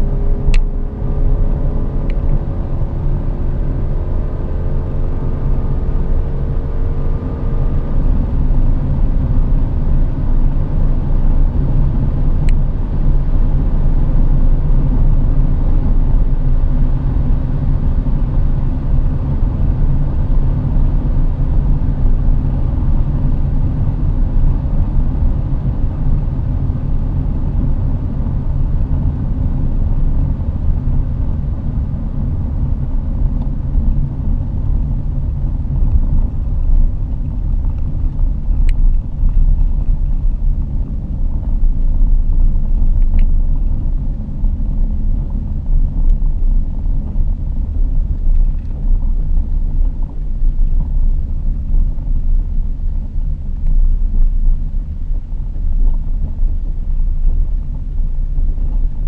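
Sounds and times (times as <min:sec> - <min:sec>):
car cabin engine and road rumble: 0:00.0 - 0:59.0.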